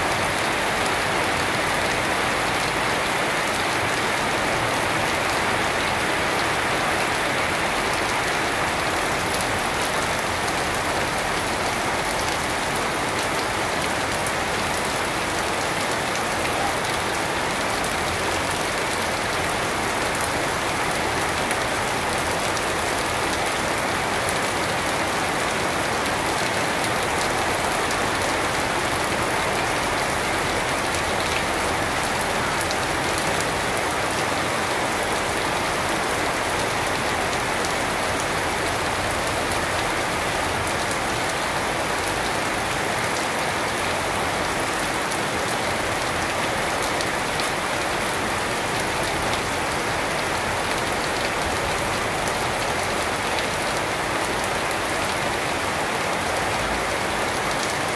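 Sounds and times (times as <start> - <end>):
steady rain on trees and paving: 0.0 - 57.9.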